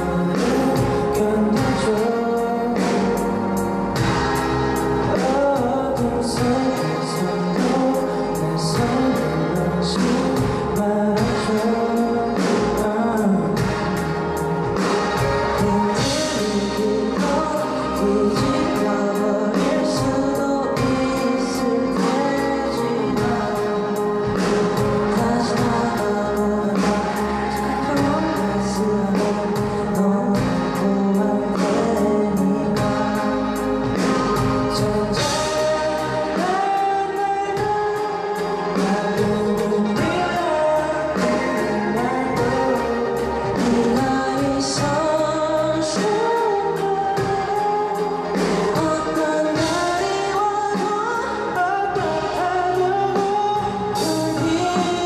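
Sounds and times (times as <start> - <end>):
band playing a ballad: 0.0 - 55.0
drum and cymbal beat: 0.0 - 55.0
man singing with vocal harmonies: 0.0 - 55.0.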